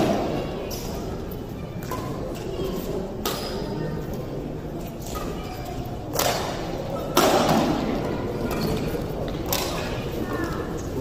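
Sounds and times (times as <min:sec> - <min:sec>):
crowd chatter: 0:00.0 - 0:11.0.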